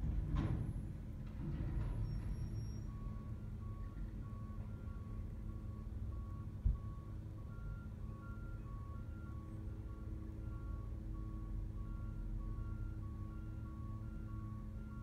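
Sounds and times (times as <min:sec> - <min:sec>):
truck engine rumble: 0:00.0 - 0:15.0
truck backup alarm beeping: 0:02.0 - 0:15.0.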